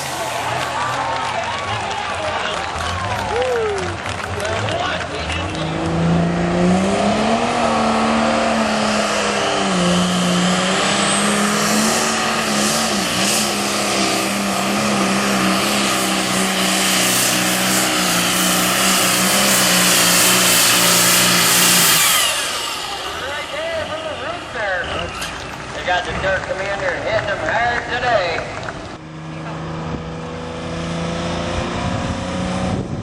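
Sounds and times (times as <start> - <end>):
tractor engine running flat out: 0.0 - 30.6.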